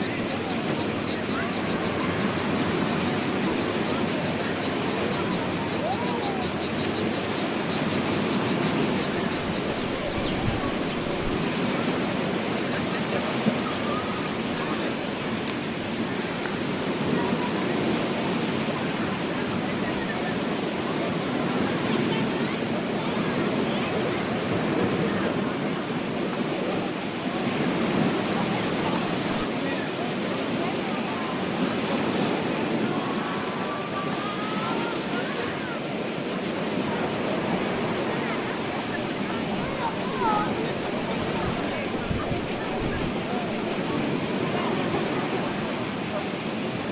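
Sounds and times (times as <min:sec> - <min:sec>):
insects trilling: 0:00.0 - 0:46.9
ocean surf: 0:00.0 - 0:46.9.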